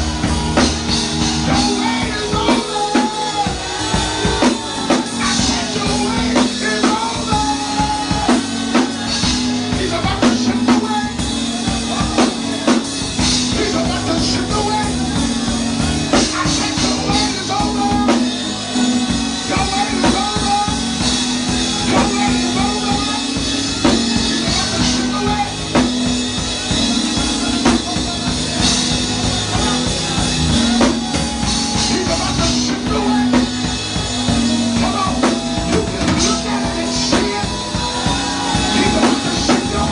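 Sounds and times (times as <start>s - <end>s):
drum kit beat: 0.0s - 39.9s
held keyboard chord: 0.0s - 39.9s
pitched melodic lines: 0.0s - 39.9s.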